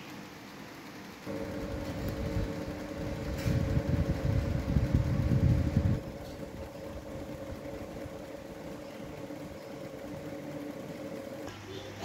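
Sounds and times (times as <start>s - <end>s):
box fan humming: 0.0s - 12.0s.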